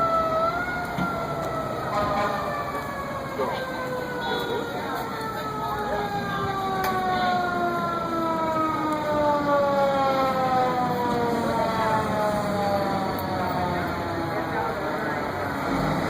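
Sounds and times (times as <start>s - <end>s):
fire truck siren winding down: 0.0s - 16.0s.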